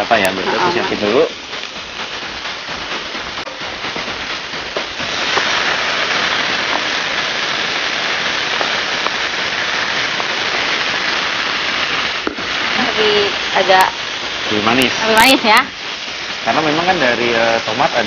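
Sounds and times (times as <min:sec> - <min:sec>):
onion sizzling in oil: 0:00.0 - 0:18.0.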